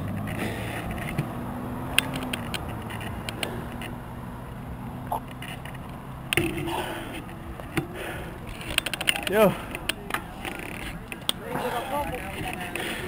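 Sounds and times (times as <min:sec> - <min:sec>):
car engines humming: 0:00.0 - 0:13.0
road noise: 0:00.0 - 0:13.0.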